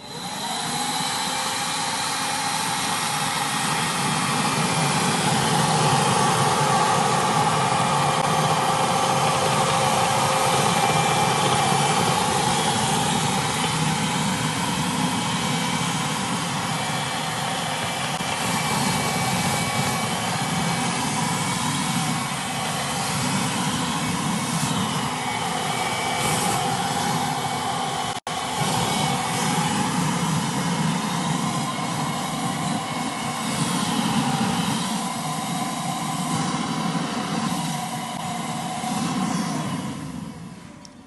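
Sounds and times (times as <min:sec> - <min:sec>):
vacuum cleaner sucking liquid: 0:00.0 - 0:40.2.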